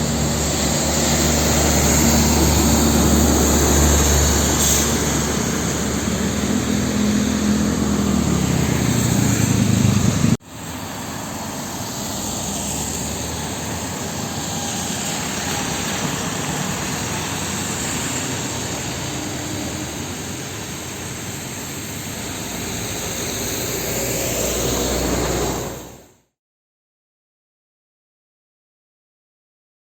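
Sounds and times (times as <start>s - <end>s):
heavy rain hiss: 0.0s - 26.1s
diesel truck passing close: 0.0s - 26.2s
wet road traffic: 0.0s - 26.3s.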